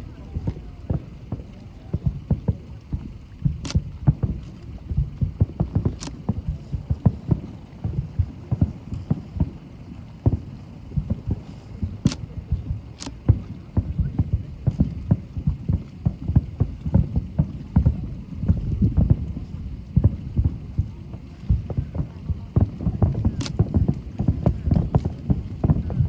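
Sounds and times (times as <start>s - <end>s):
firework shells booming: 0.0s - 26.0s.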